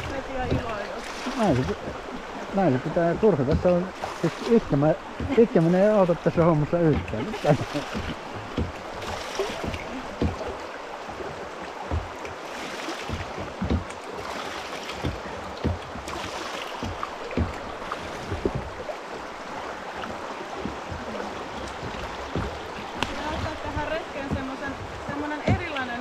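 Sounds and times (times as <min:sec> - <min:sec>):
low thumps: 0:00.0 - 0:10.7, 0:11.3 - 0:12.3, 0:13.1 - 0:14.0, 0:15.0 - 0:26.0
river rapids rushing: 0:00.0 - 0:26.0.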